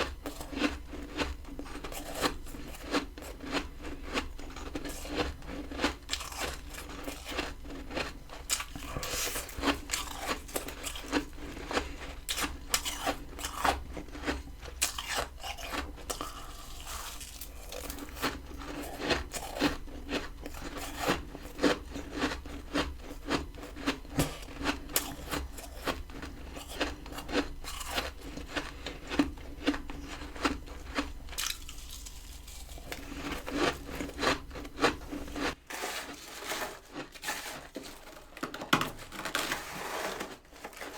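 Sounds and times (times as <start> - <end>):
frost ice crunching and scraping: 0.0 - 19.8, 24.0 - 40.9.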